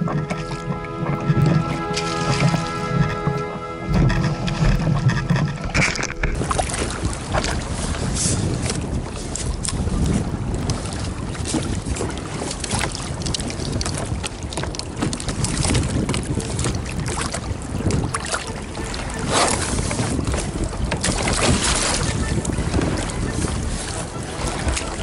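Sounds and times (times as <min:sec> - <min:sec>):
water slapping against boat hull: 0:00.0 - 0:25.0
wind buffeting microphone: 0:00.0 - 0:25.0.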